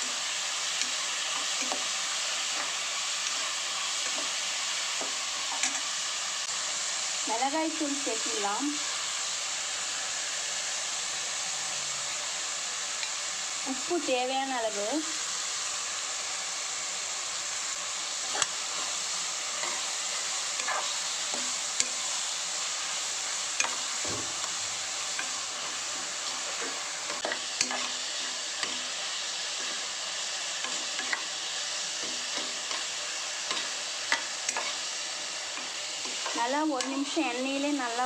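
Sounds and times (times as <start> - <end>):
vegetables sizzling in hot oil: 0.0 - 38.0.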